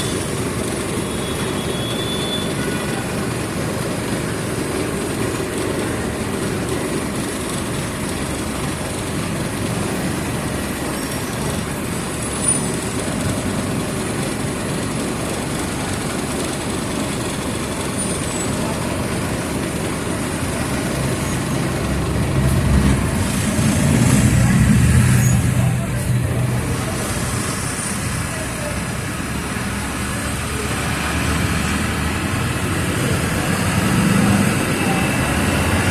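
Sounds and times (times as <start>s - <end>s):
bus diesel engine running: 0.0s - 35.9s.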